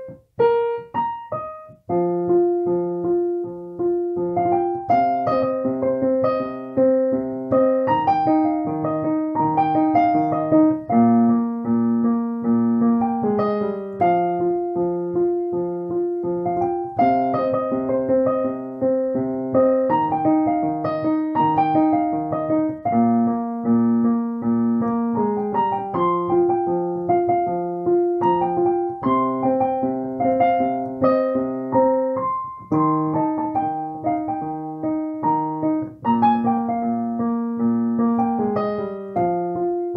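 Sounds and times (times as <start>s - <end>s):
slow piano piece: 0.0s - 39.9s.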